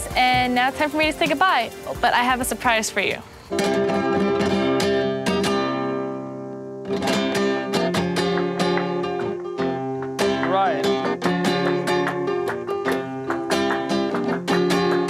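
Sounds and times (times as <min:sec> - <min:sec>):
flamenco guitar strumming: 0:00.0 - 0:15.0.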